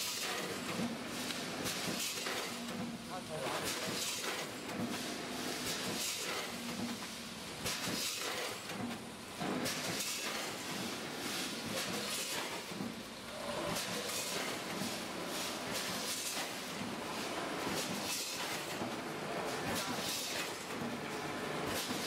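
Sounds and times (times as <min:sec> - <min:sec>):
packing machine running: 0:00.0 - 0:22.0.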